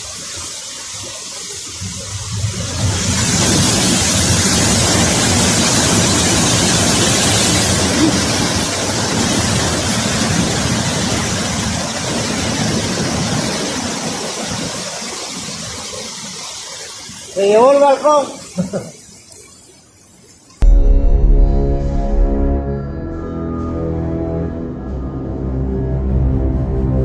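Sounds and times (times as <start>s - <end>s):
floodwater rushing: 0.0s - 23.2s.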